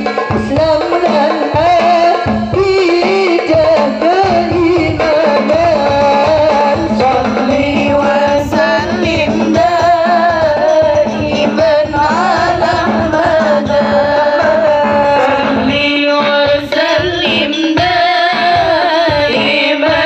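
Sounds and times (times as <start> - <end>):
person singing devotional song: 0.0 - 20.0
steady drum accompaniment: 0.0 - 20.0.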